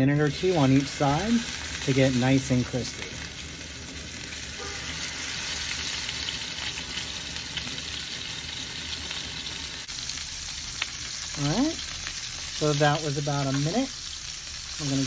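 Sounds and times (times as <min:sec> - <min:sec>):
steak sizzling in oil: 0:00.0 - 0:15.0.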